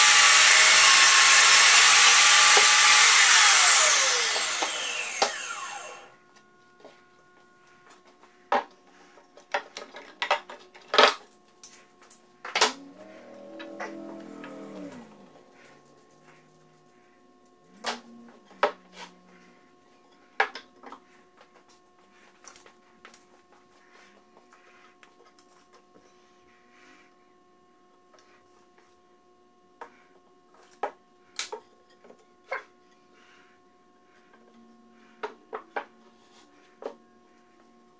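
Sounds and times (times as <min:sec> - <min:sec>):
faint steady hum: 0:03.8 - 0:37.9.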